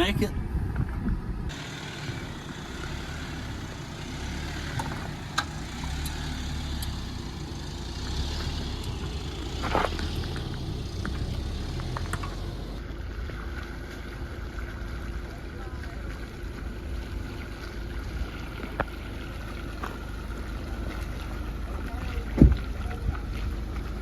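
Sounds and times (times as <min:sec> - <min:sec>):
engine and tyres rumbling: 0:00.0 - 0:24.0.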